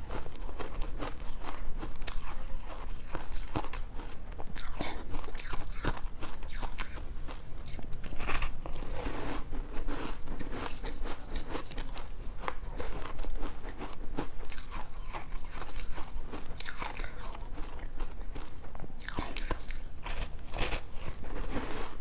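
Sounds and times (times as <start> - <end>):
person chewing crunchy frost: 0.0 - 22.0.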